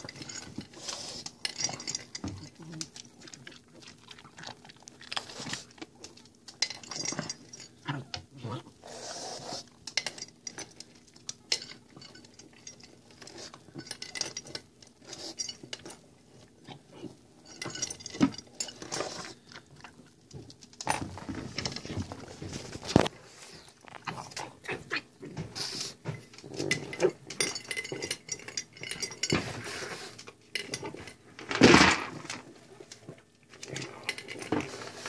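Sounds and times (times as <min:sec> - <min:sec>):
dog crunching dry kibble: 0:00.0 - 0:08.2, 0:08.8 - 0:29.3
bowl clinking and scraping: 0:00.0 - 0:08.6, 0:09.4 - 0:35.0.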